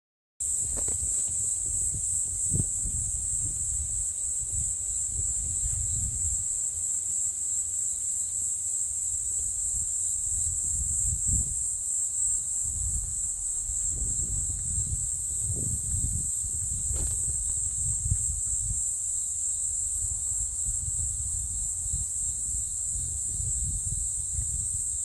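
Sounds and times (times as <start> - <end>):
insects chirping chorus: 0.4 - 25.0
wind rumbling on microphone: 0.5 - 6.7, 9.0 - 25.0.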